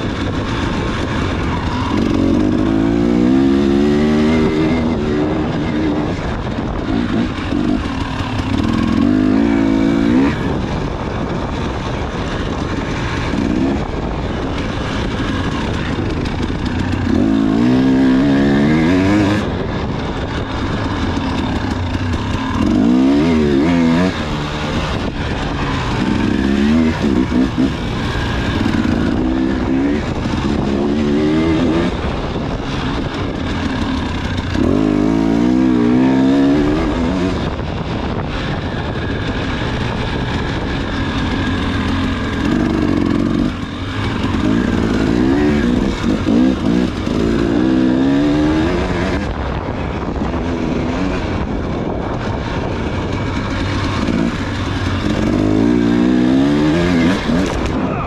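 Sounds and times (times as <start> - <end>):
dirt bike engine revving: 0.0 - 58.0
wind and riding noise: 0.0 - 58.0.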